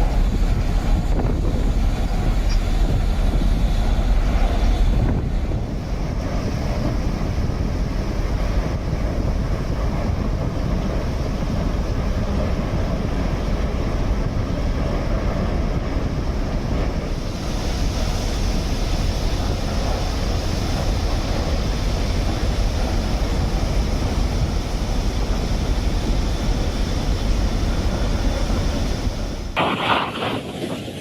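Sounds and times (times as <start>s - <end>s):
sea noise: 0.0s - 31.0s
wind: 0.0s - 31.0s
wind rumble on microphone: 0.0s - 31.0s.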